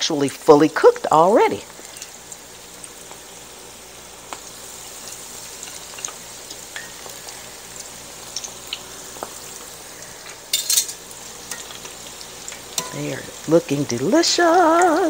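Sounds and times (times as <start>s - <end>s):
food deep-frying in hot oil: 0.0s - 15.0s
oil crackling and popping: 0.0s - 15.0s.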